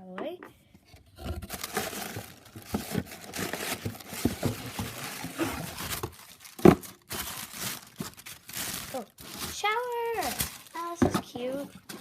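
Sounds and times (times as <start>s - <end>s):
packaging crinkling and tearing: 1.2s - 12.0s.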